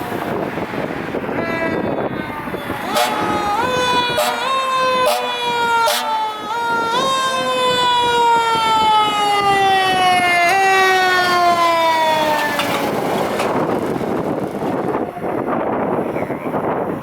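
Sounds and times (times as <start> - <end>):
fire engine siren: 0.0 - 16.1
wind and road noise: 0.0 - 17.0.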